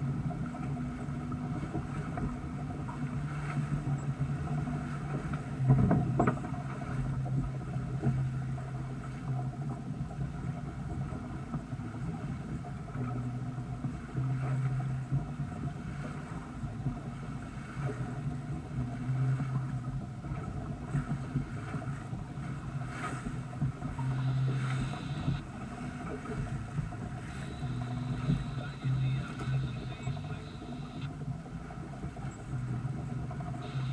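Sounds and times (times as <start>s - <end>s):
low hum: 0.0s - 33.9s
water rushing along hull: 0.0s - 33.9s.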